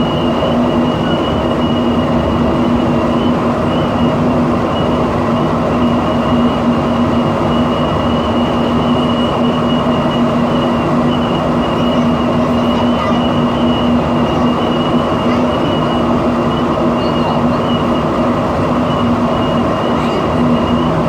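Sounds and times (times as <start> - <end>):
metro train rumble: 0.0 - 21.0.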